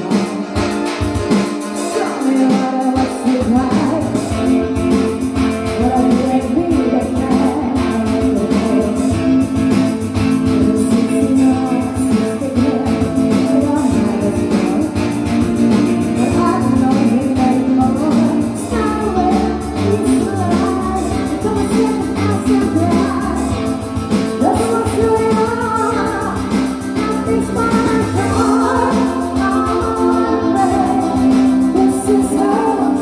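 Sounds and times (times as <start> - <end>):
guitar accompaniment: 0.0 - 33.0
pop song singing: 0.0 - 33.0.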